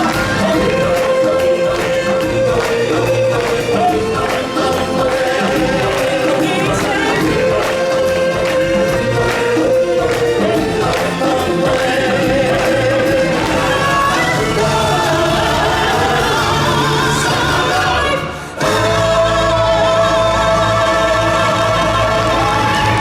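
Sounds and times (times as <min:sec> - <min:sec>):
singers and choir performing: 0:00.0 - 0:23.0.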